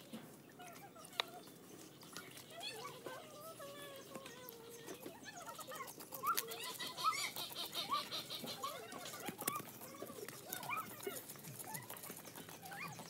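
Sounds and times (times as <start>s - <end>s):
high chirping animal calls: 0.4s - 13.0s.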